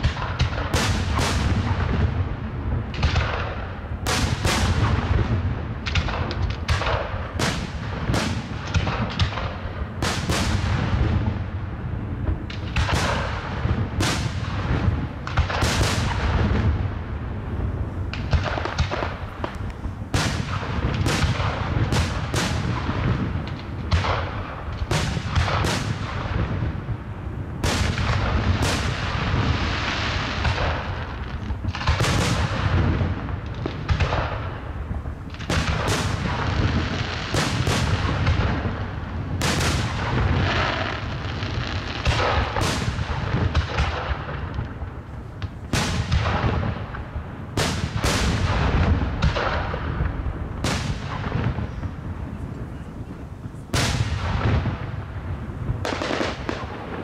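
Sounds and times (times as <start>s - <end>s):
echoing booms and crackle: 0.0s - 57.0s.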